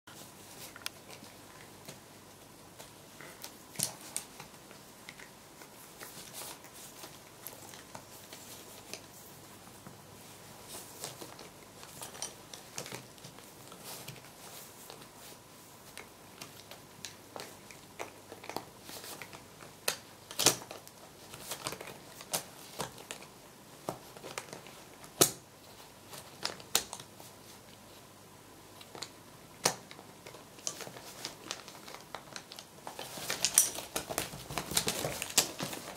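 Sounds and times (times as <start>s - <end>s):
newspaper crinkling and rustling: 0.2s - 27.7s, 29.0s - 35.9s.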